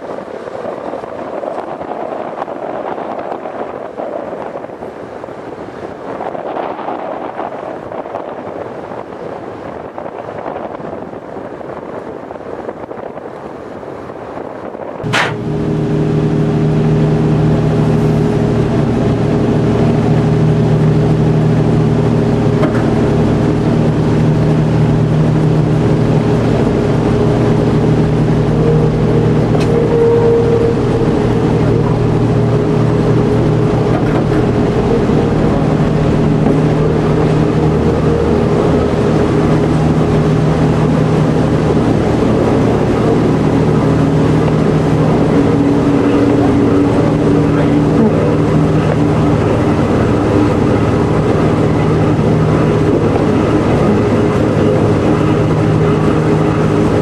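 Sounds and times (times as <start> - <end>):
noisy track rumble: 0.0 - 57.0
railcar engine humming: 7.0 - 57.0.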